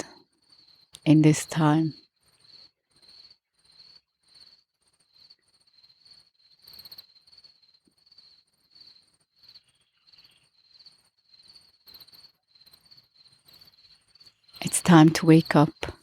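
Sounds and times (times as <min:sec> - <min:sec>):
crickets chirping: 0:00.4 - 0:01.3, 0:02.0 - 0:15.5.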